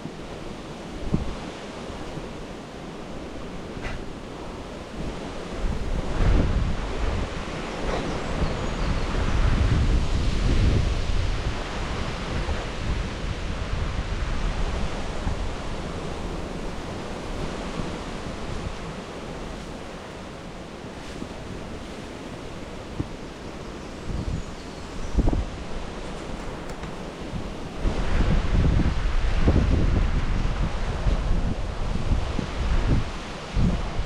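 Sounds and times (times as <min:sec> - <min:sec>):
wind gusting across microphone: 0:00.0 - 0:34.0.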